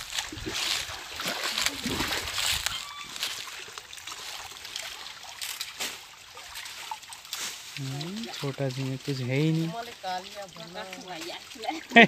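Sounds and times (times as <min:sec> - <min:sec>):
light splashes: 0:00.0 - 0:12.0
pond water trickling and splashing: 0:00.0 - 0:12.0.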